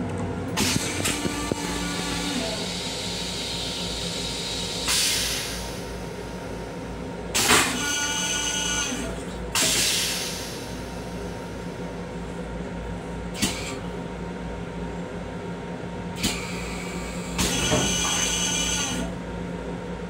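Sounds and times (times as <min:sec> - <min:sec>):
railcar hum and rumble: 0:00.0 - 0:20.0.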